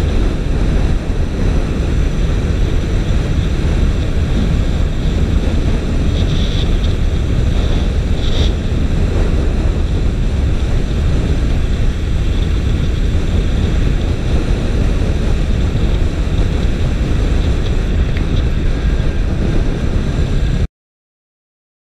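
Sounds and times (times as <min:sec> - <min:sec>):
motorcycle running: 0:00.0 - 0:20.7
road noise: 0:00.0 - 0:20.7
wind rushing over microphone: 0:00.0 - 0:20.7.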